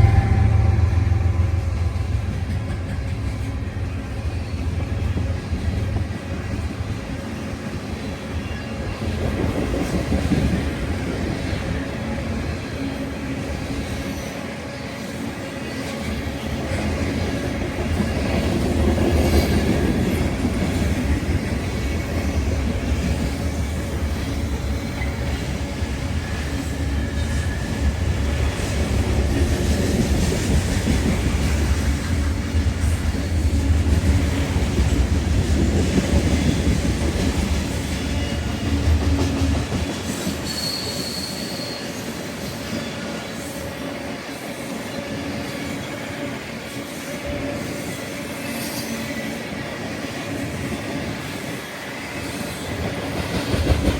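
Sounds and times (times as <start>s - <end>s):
high squeal of train wheels: 0.0s - 53.9s
train wheels rumbling on rails: 0.0s - 53.9s.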